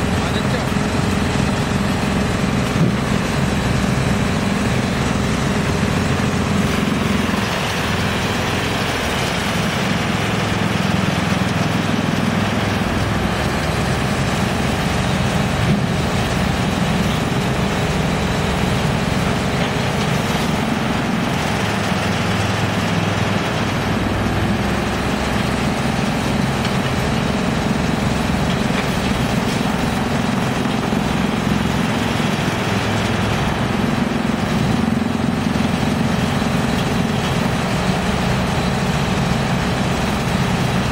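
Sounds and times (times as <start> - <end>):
excavator engine running: 0.0 - 40.9
wood chipper running: 0.0 - 40.9.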